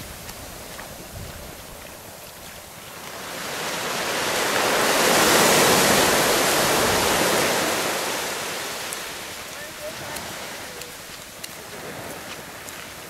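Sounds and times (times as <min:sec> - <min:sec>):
surf washing up a sandy beach: 0:00.0 - 0:13.0.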